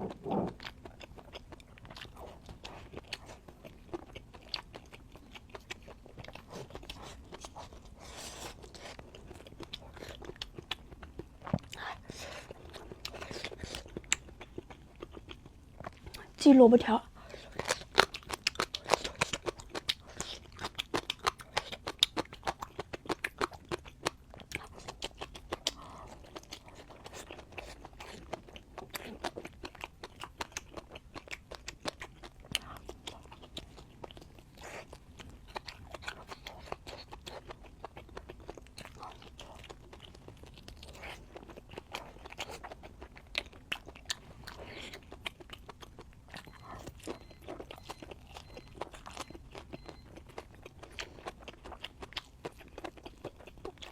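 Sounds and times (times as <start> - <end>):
chewing crunchy food: 0.0 - 53.9.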